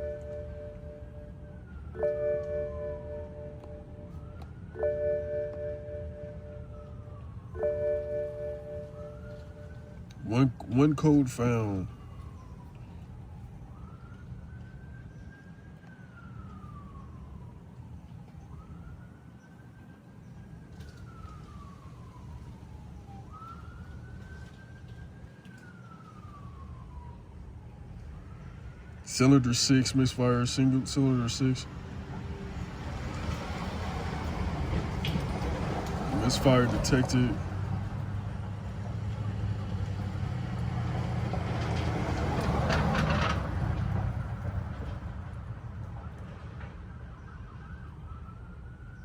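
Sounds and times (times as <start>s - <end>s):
emergency siren wailing: 0.0s - 49.0s.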